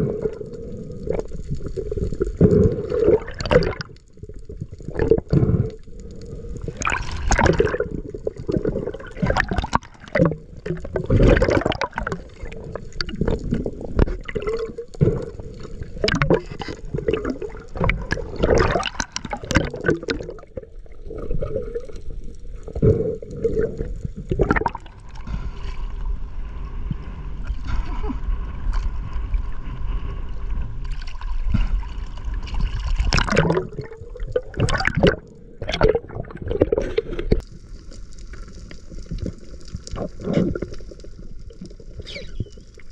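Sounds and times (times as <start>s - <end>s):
underwater water rushing and bubbling: 0.0s - 42.9s.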